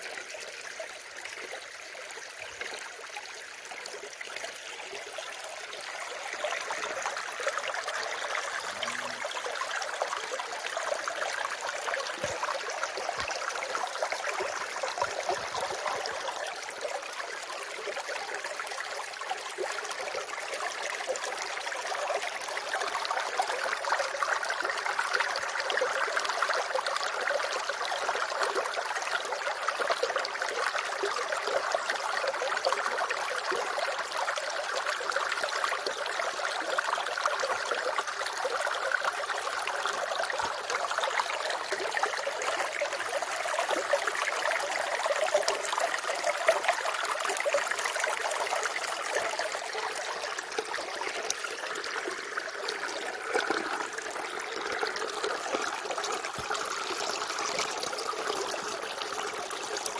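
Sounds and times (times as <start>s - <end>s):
running water trickling: 0.0s - 28.4s, 34.9s - 59.9s.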